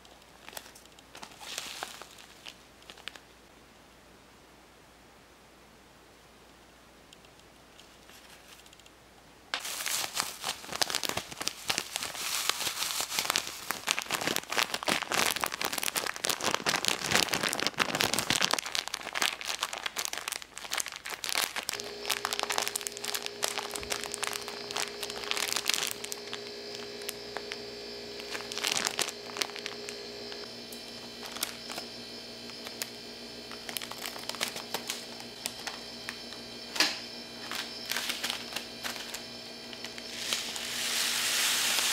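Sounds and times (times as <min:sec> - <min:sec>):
plastic bag crinkling: 0:00.0 - 0:03.3, 0:09.6 - 0:41.9.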